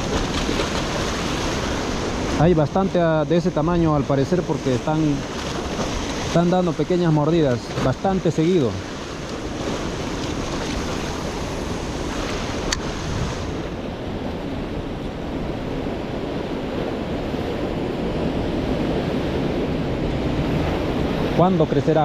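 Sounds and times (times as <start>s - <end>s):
surf washing against shore: 0.0s - 22.0s
wind buffeting microphone: 0.0s - 22.0s.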